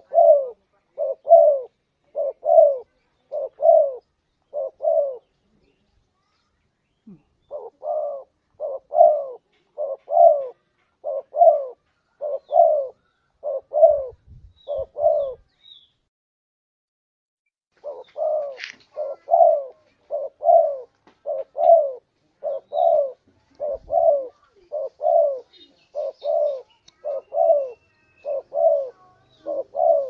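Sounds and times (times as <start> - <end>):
dove cooing: 0.0 - 5.4, 7.2 - 15.5, 17.8 - 30.0.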